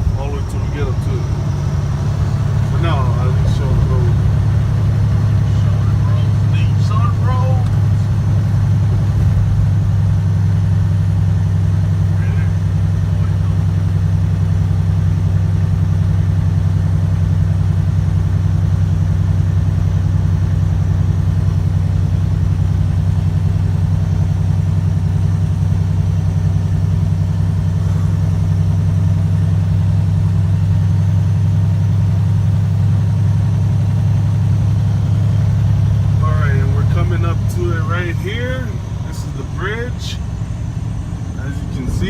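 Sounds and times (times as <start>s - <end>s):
truck diesel engine droning: 0.0s - 42.0s.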